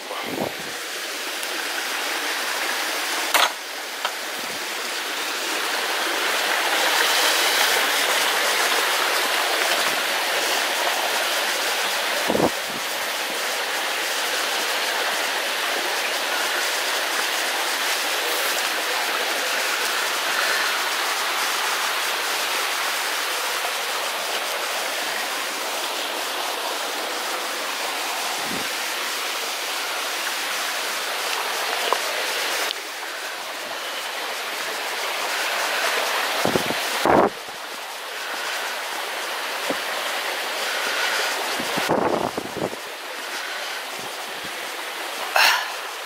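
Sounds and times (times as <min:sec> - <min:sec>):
stream water rushing: 0:00.0 - 0:46.0.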